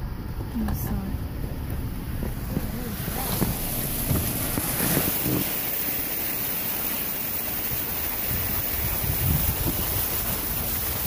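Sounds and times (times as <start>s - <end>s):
vehicle driving through floodwater: 0.0s - 11.0s.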